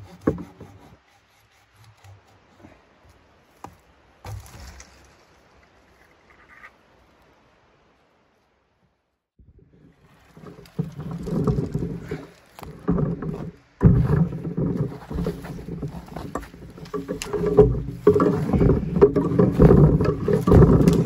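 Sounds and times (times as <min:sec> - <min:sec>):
branches rustling: 0:00.0 - 0:08.6, 0:09.7 - 0:21.0.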